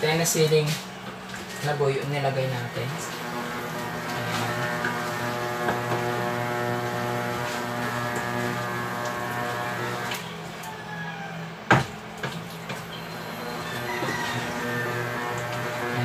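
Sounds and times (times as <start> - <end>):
steady droning hum: 0.0 - 16.0.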